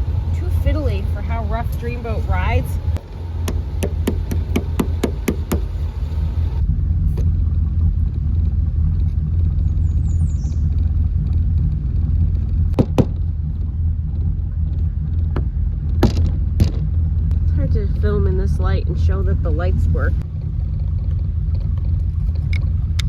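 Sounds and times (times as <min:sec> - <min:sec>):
engine idling with low rumble: 0:00.0 - 0:23.0.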